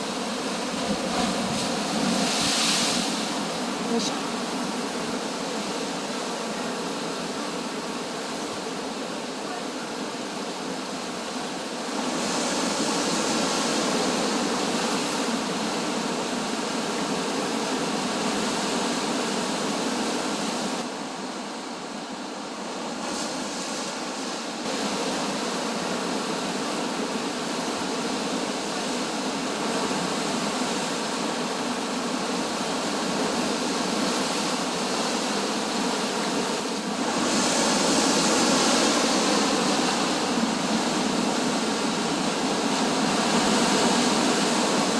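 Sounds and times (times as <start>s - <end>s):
ocean waves breaking: 0.0s - 20.8s, 22.6s - 44.9s.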